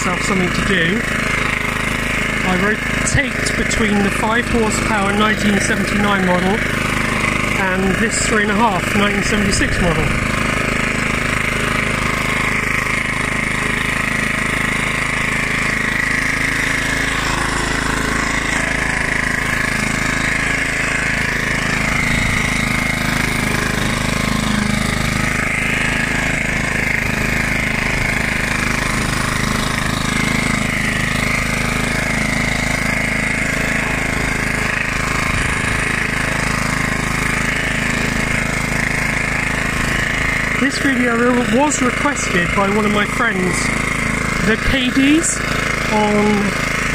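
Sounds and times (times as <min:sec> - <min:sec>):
lawnmower engine running: 0:00.0 - 0:46.9.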